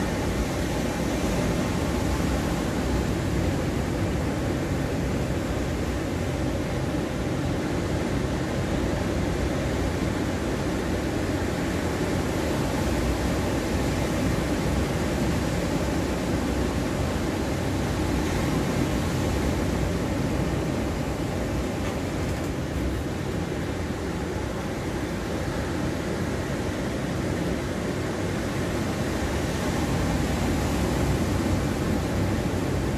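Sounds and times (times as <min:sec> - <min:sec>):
ocean surf breaking on beach: 0:00.0 - 0:32.9.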